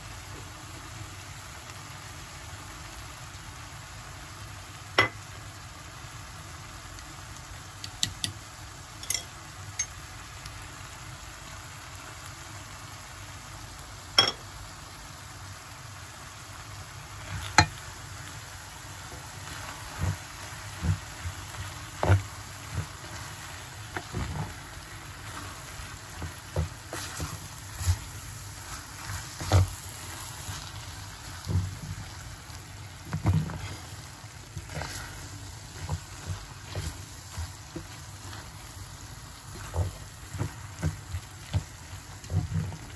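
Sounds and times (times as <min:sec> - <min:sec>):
food sizzling in oil: 0:00.0 - 0:42.9.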